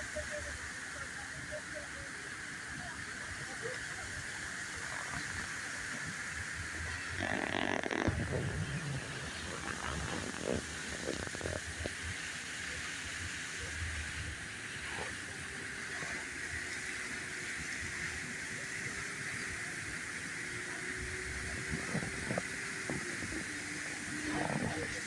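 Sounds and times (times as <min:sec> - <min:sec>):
fountain water splashing: 0:00.0 - 0:25.0.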